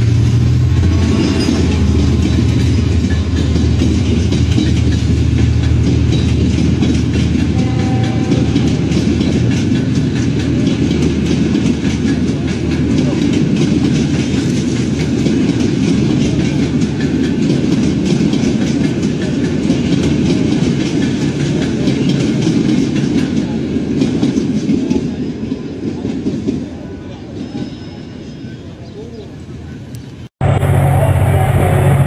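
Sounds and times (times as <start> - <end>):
wheels clattering over rail joints: 0.0 - 27.7
train coaches rumbling: 0.0 - 32.0.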